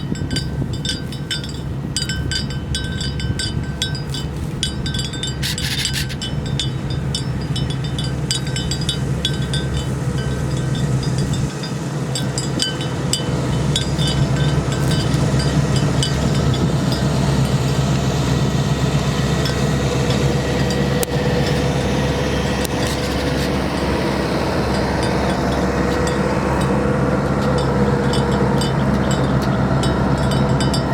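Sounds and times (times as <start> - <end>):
animal bells clinking: 0.0 - 30.9
low rumble: 0.0 - 30.9.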